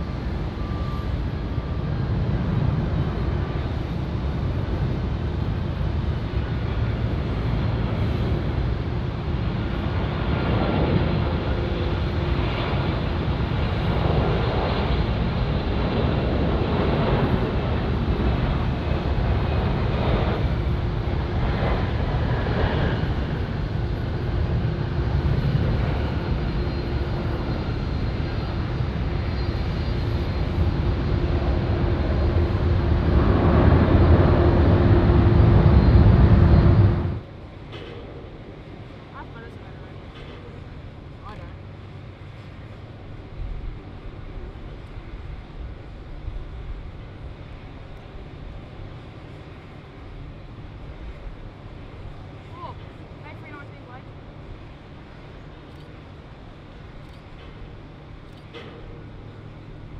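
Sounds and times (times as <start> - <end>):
jet engine whine: 0.0 - 59.9
jet engines roaring: 0.0 - 59.9.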